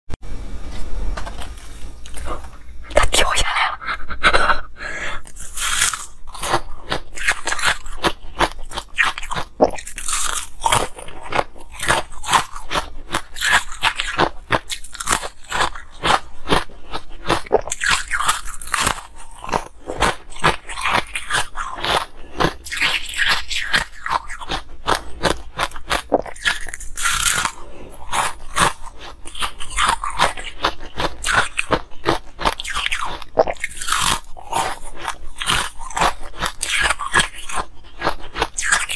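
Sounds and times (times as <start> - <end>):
ice crunching between teeth: 5.2 - 38.9.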